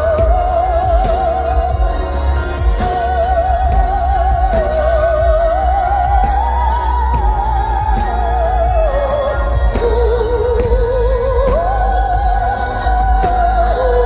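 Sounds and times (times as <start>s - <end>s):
heavy steady bass: 0.0s - 14.0s
operatic singing with vibrato: 0.0s - 14.0s.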